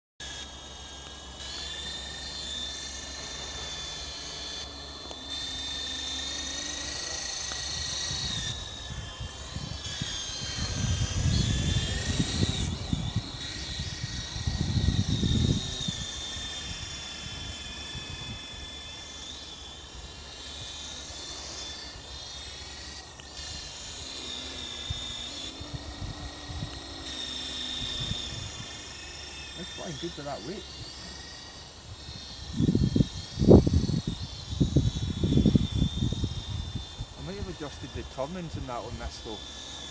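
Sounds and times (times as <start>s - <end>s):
rc helicopter whine: 0.2s - 39.9s.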